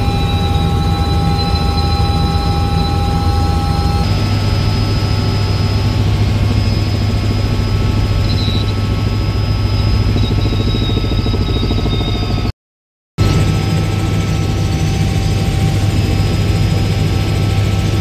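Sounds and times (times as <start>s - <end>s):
helicopter engine and rotor drone: 0.0s - 12.5s, 13.2s - 18.0s.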